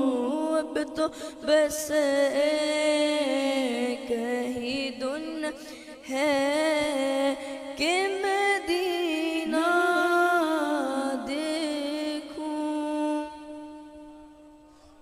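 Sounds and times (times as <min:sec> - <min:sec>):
boy singing unaccompanied: 0:00.0 - 0:05.5, 0:06.1 - 0:13.7.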